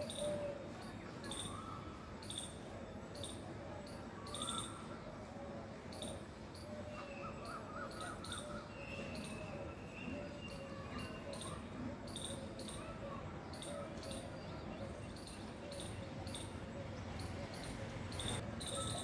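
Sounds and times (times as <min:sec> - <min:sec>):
faint distant voices: 0:00.0 - 0:19.0.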